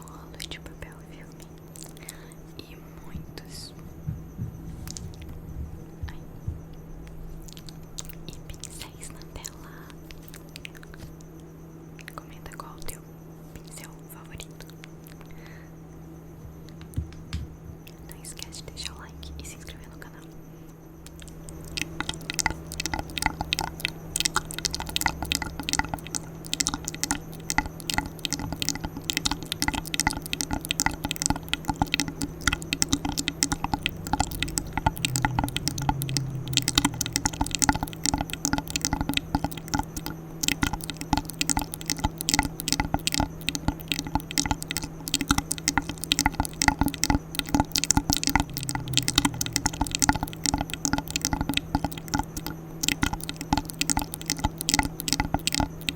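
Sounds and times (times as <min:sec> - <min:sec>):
wet mouth clicks and smacks: 0:01.3 - 0:02.4, 0:04.2 - 0:05.5, 0:07.4 - 0:11.4, 0:12.0 - 0:12.8, 0:16.7 - 0:19.9, 0:21.0 - 0:55.9.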